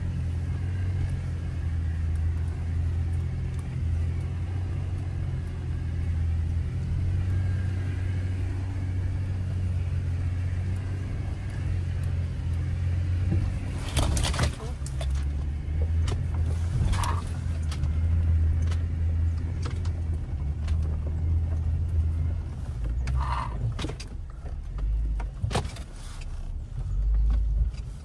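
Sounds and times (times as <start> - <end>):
car engine running at low revs: 0.0 - 28.0.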